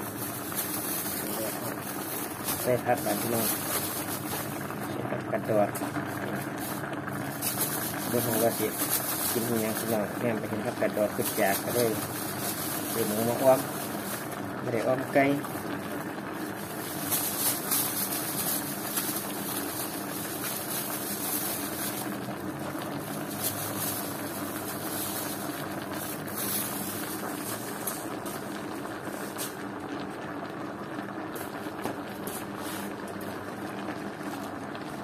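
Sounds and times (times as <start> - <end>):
broth bubbling in a wok: 0.0 - 35.0
faint crackles: 0.0 - 35.0.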